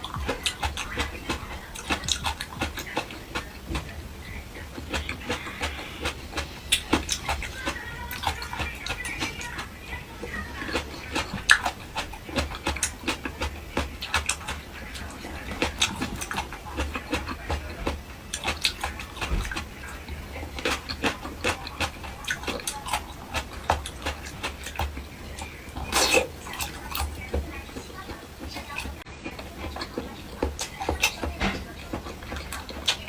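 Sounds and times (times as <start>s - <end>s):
loud noisy sound: 0.0s - 29.4s
lip-smacking clicks: 0.0s - 33.0s
wet chewing: 0.0s - 33.0s.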